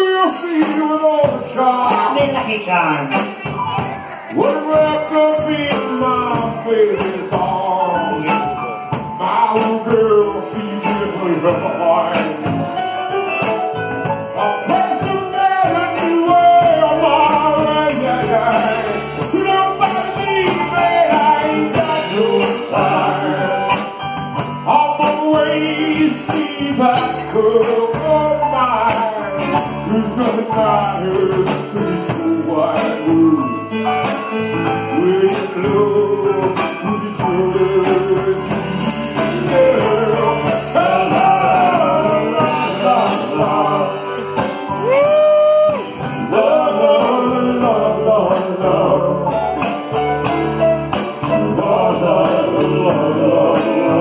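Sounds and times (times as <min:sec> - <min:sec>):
electric bass: 0:00.0 - 0:54.0
live band with singing: 0:00.0 - 0:54.0.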